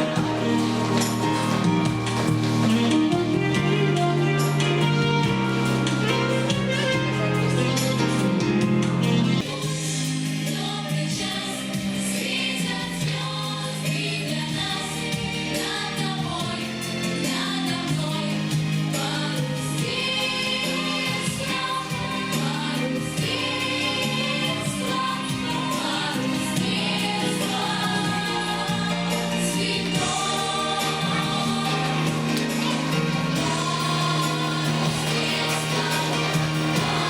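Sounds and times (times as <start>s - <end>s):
group singing children's song: 0.0s - 4.8s, 9.2s - 37.0s
instrumental backing track: 0.0s - 37.0s.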